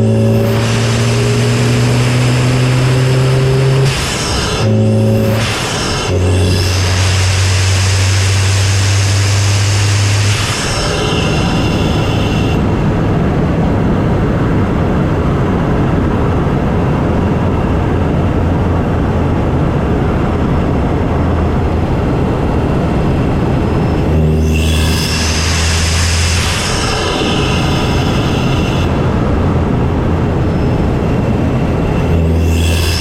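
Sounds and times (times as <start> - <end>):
car engine intake drone: 0.0 - 33.0.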